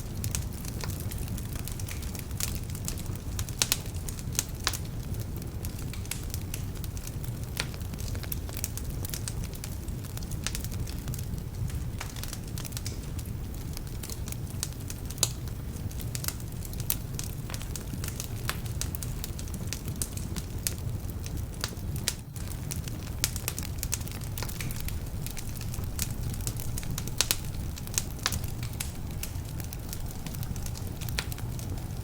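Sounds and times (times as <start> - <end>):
fire flames rumbling: 0.0 - 32.0
logs crackling and popping: 0.0 - 32.0.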